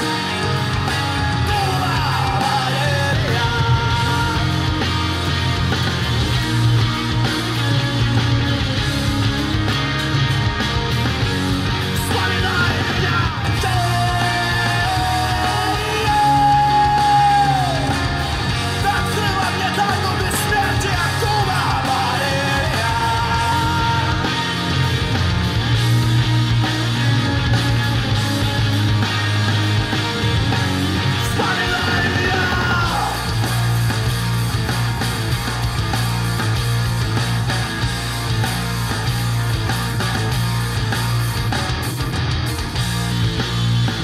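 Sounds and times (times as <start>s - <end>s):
rock song over loudspeakers: 0.0s - 44.0s.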